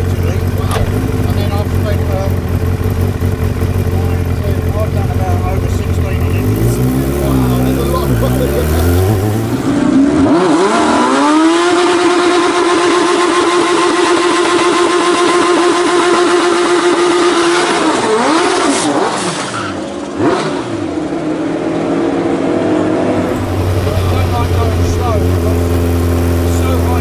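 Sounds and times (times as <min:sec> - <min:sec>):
engine revving: 0:00.0 - 0:21.2, 0:22.9 - 0:27.0.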